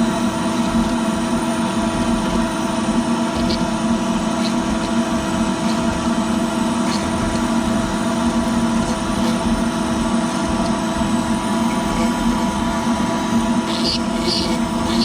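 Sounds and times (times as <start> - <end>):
dust collector running: 0.0 - 15.0
router spindle cutting plastic: 0.0 - 15.0.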